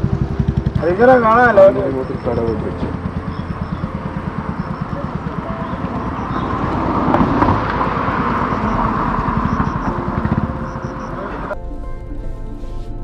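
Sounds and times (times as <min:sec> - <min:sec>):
low pulsing: 0:00.0 - 0:13.0
vehicle engine with road noise: 0:00.0 - 0:13.0.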